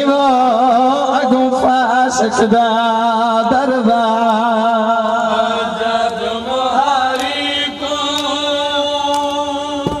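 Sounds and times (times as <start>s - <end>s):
man chanting a lament: 0.0s - 10.0s.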